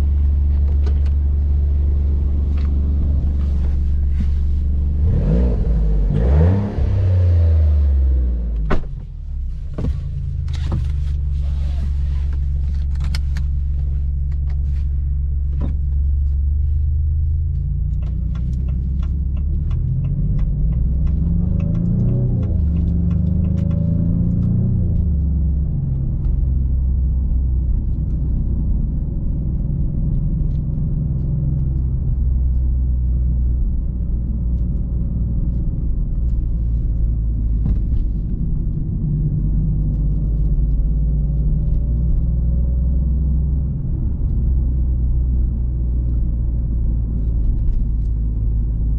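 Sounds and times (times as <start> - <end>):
car engine revving: 0.0 - 8.9, 9.8 - 48.9.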